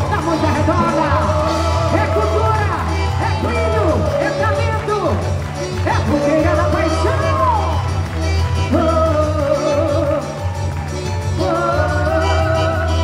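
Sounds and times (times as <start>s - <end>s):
heavy bass line: 0.0s - 13.0s
person singing melody: 0.0s - 13.0s.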